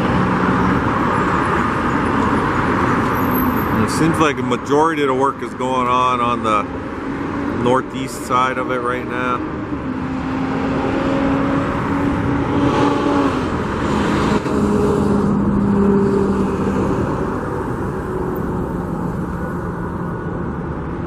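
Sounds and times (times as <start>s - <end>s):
engine hum: 0.0s - 21.0s
vehicles passing: 0.0s - 21.0s.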